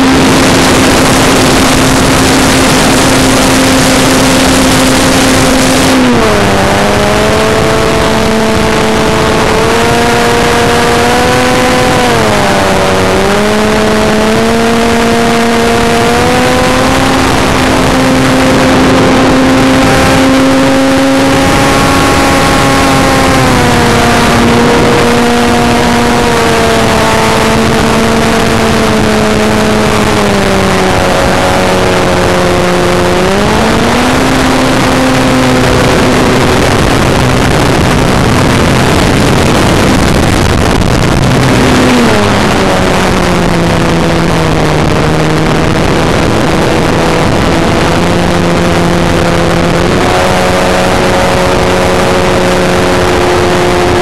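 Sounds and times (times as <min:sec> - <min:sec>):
wind rushing past microphone: 0:00.0 - 0:54.0.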